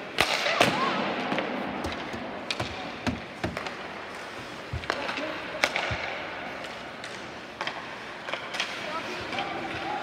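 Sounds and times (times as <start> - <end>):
hockey sticks and puck clacking: 0.0 - 10.0
skates scraping on ice: 1.3 - 10.0.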